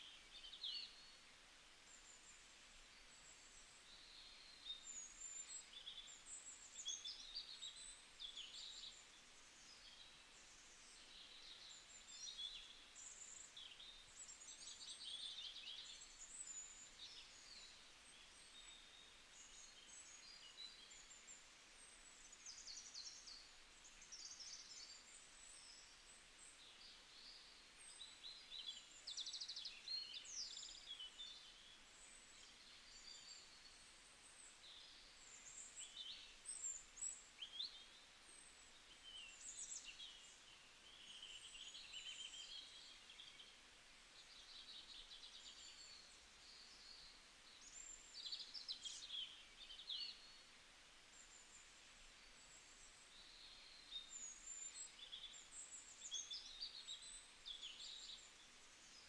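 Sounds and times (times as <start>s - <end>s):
low hiss: 0.0s - 59.0s
small birds chirping: 0.0s - 59.0s.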